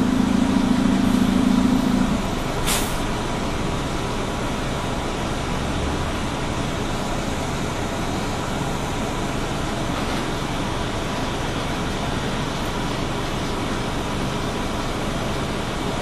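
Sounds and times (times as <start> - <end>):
bus engine humming: 0.0 - 16.0
road noise: 0.0 - 16.0.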